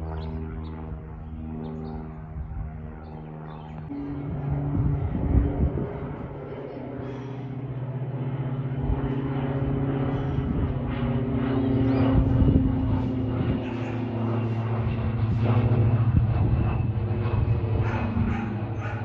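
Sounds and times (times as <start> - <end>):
propeller airplane droning: 0.0 - 19.0.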